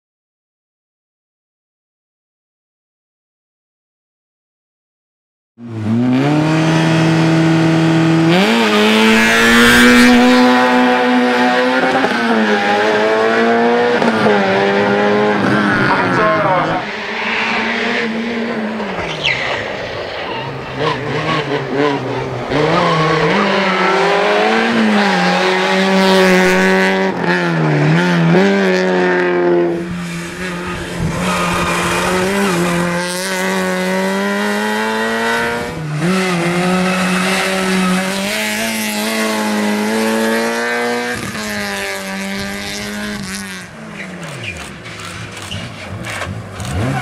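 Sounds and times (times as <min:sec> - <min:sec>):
car engine revving hard: 0:05.6 - 0:19.0, 0:20.7 - 0:47.0.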